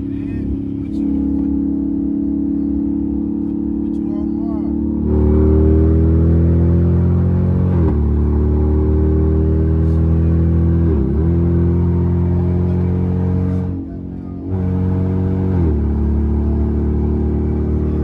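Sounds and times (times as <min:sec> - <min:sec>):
engine accelerating through gears: 0:00.0 - 0:18.0.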